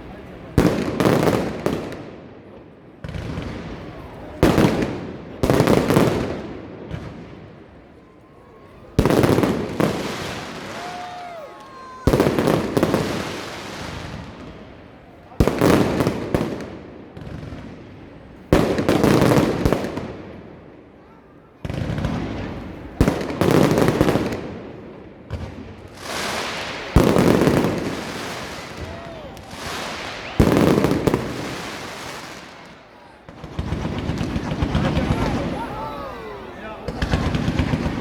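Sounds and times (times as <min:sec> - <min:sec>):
fireworks crackling and fizzing: 0:00.0 - 0:02.2, 0:02.9 - 0:38.0
fireworks bangs: 0:00.0 - 0:20.7, 0:21.6 - 0:38.0.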